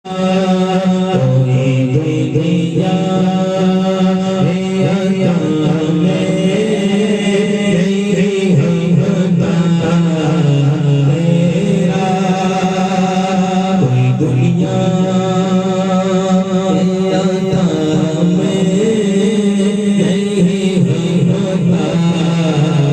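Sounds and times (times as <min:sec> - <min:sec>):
person singing wordless melody: 0:00.1 - 0:22.9
steady held drone: 0:00.1 - 0:22.9.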